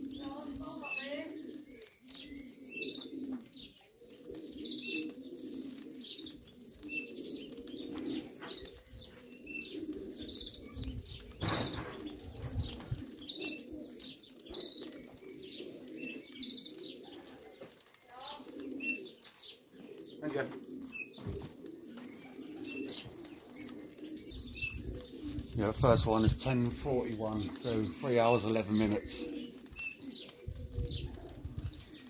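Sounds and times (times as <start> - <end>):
pigeon chirps: 0.0 - 32.0
pigeons cooing: 0.0 - 32.0.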